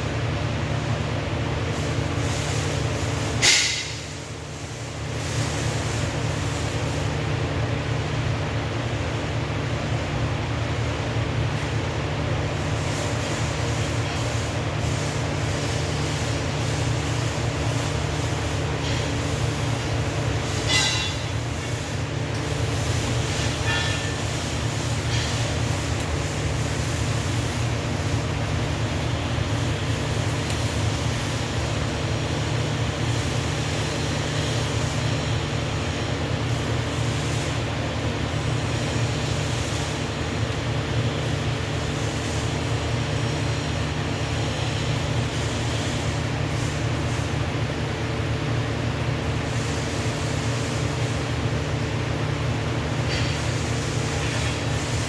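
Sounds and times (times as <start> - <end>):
constant low hum: 0.0 - 55.0
welding drone with hiss: 0.0 - 55.0
welding crackle: 1.6 - 55.0.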